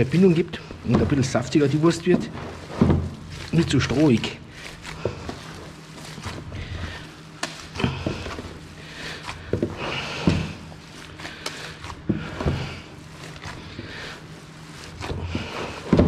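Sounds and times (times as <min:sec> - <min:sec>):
hands squelching wet meat: 0:00.0 - 0:16.0
low steady hum: 0:00.0 - 0:16.0.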